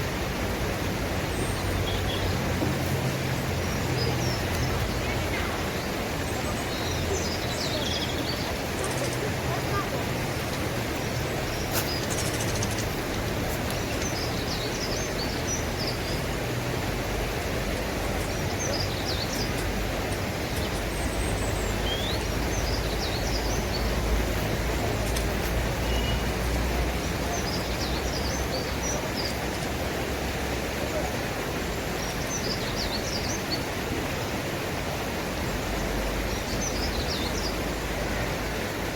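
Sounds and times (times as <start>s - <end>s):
rushing outdoor noise: 0.0s - 38.9s.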